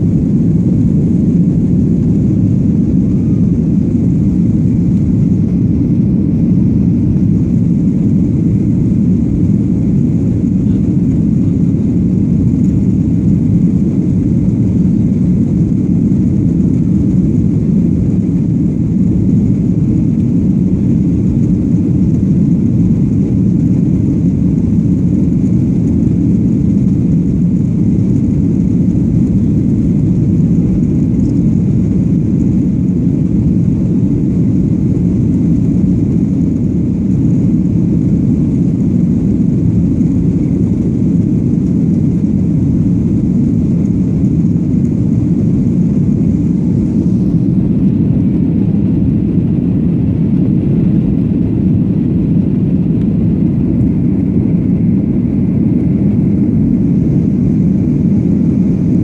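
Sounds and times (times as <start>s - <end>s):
airplane low rumble: 0.0s - 59.0s.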